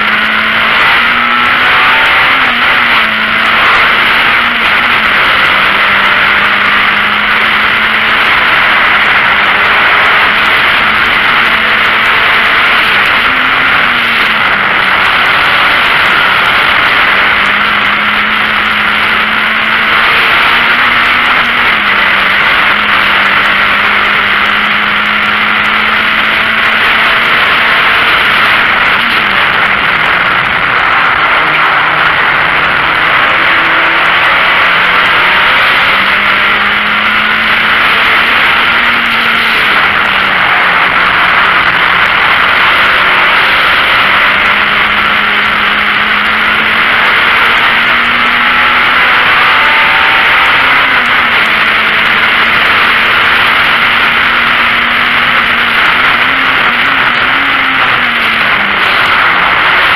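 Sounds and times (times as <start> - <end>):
car engine revving: 0.0 - 59.9
wind and road rushing noise: 0.0 - 59.9.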